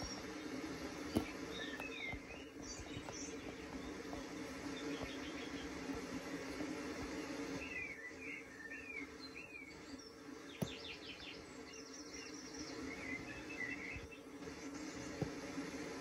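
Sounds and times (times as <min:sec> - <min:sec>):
small bird chirping: 0:00.0 - 0:15.3
steady low hum: 0:00.0 - 0:16.0.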